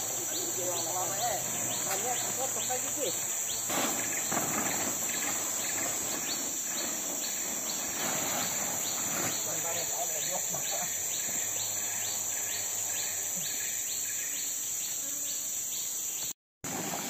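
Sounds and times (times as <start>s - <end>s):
forest insects shrilling: 0.0s - 17.0s.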